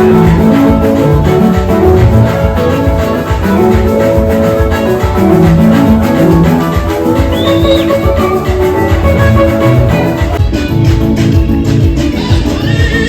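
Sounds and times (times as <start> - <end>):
gospel band music: 0.0 - 13.0.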